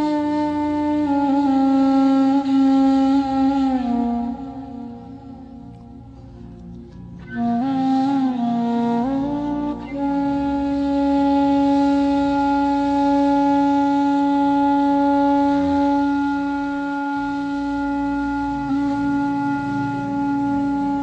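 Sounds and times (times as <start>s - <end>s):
wind instrument melody: 0.0s - 21.0s.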